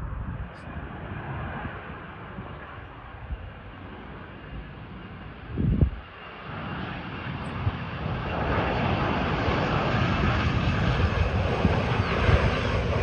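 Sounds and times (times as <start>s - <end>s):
jet engine rush: 0.0s - 13.0s.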